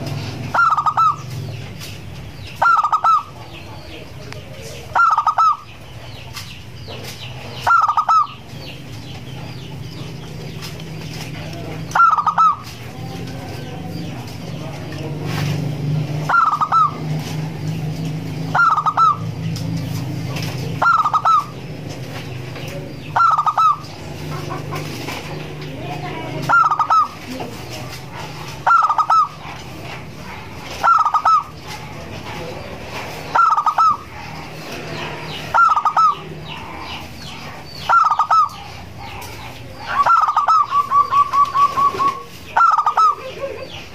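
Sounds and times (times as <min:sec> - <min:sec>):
dove cooing: 0:00.0 - 0:01.6, 0:02.3 - 0:06.0, 0:07.3 - 0:43.9.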